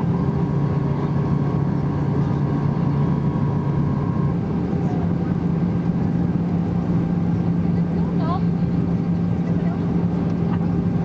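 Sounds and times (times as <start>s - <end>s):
airliner cabin engine drone: 0.0s - 11.0s.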